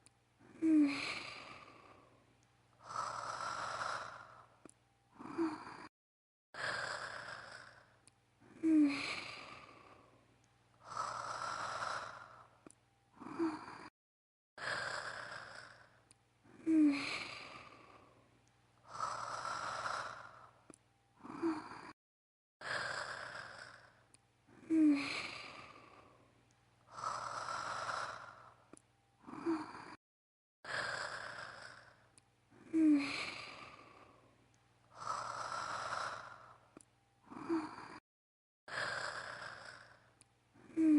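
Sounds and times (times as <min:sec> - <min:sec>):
woman snoring: 0:00.4 - 0:02.2, 0:02.8 - 0:05.9, 0:06.6 - 0:10.2, 0:10.8 - 0:13.9, 0:14.6 - 0:18.2, 0:18.8 - 0:22.0, 0:22.6 - 0:30.0, 0:30.6 - 0:38.0, 0:38.7 - 0:40.9.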